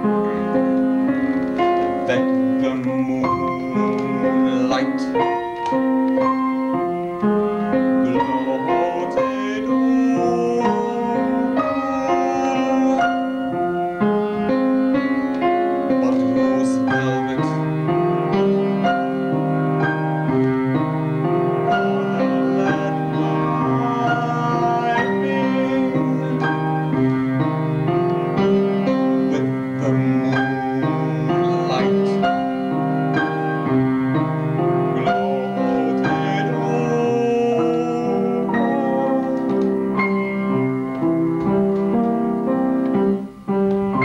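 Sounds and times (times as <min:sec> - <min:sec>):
keyboard chords: 0:00.0 - 0:44.0.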